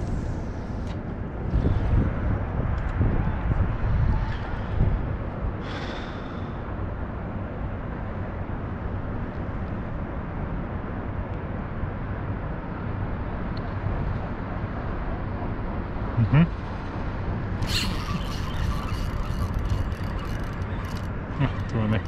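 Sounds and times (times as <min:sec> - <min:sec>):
steady outdoor rumble and hiss: 0:00.0 - 0:22.0.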